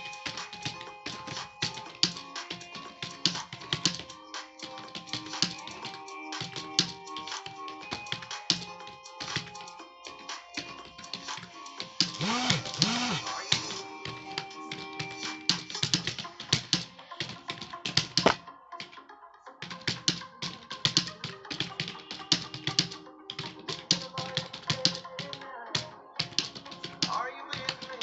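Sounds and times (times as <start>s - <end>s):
keyboard typing clatter: 0.0s - 9.8s, 14.0s - 19.0s, 19.7s - 28.0s
faint song music: 0.0s - 28.0s.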